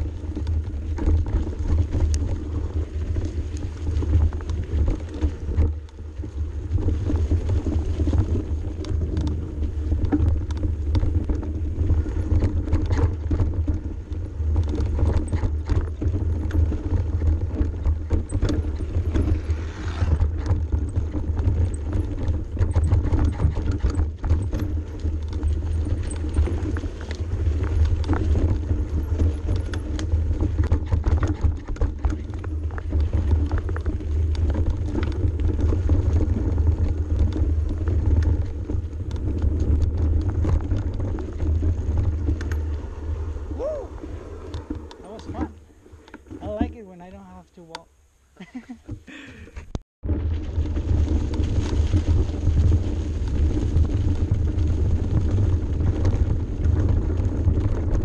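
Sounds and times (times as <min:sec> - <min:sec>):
bike rattles and knocks: 0:00.0 - 0:47.0, 0:48.4 - 0:58.0
bike rumbling over rough trail: 0:00.0 - 0:58.0.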